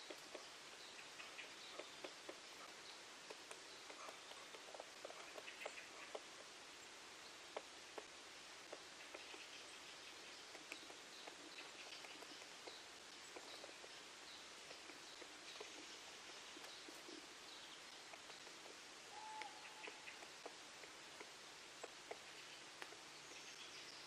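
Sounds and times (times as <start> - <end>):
light ticks: 0.0 - 6.5, 7.4 - 24.0
distant birds chirping: 0.0 - 24.0.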